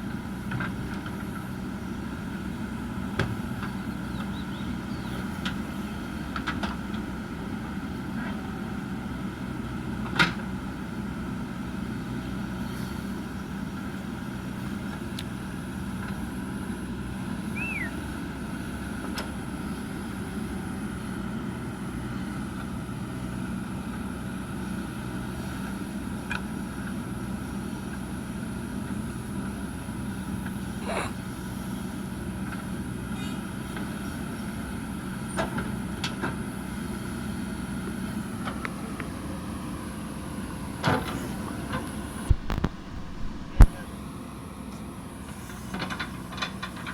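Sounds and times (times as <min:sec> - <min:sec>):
diesel machinery running: 0:00.0 - 0:46.9.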